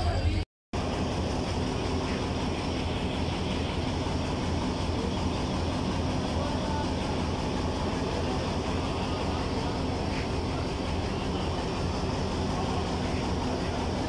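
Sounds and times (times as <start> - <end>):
diesel locomotive engine idling: 0.0 - 14.0.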